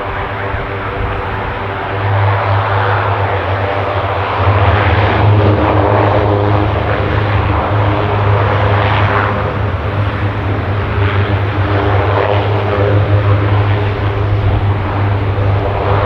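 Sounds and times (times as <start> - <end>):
broad rushing roar: 0.0 - 16.0
propeller aircraft drone: 0.0 - 16.0.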